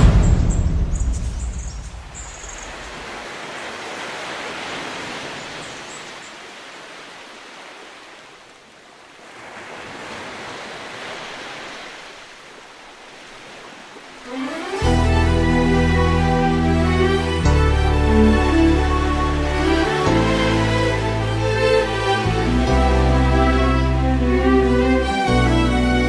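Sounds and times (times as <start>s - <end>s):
ocean waves rushing: 0.0s - 26.0s.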